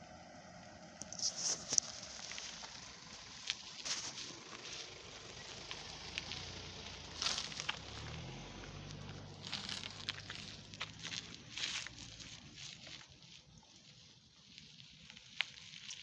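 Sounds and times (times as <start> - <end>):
low engine hum: 0.0 - 13.6.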